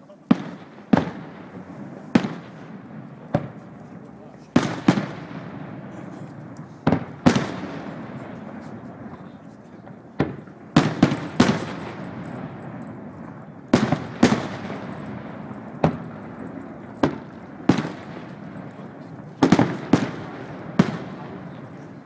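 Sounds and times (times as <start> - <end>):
firework shells bursting: 0.3 - 22.0.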